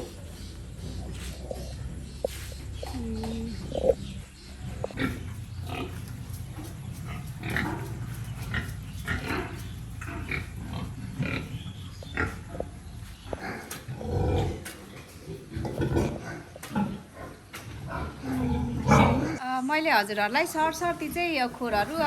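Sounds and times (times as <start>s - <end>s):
pigs grunting and squealing: 0.0s - 19.4s.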